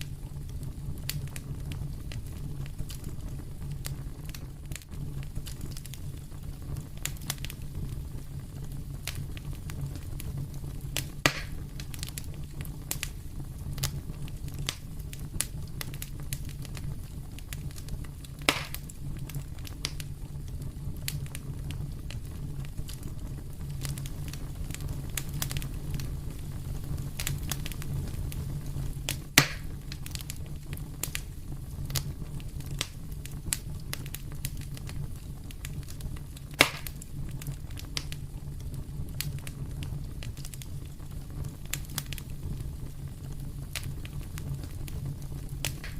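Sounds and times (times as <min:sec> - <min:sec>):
sharp fire pops: 0:00.0 - 0:45.9
wood fire crackling: 0:00.0 - 0:45.9.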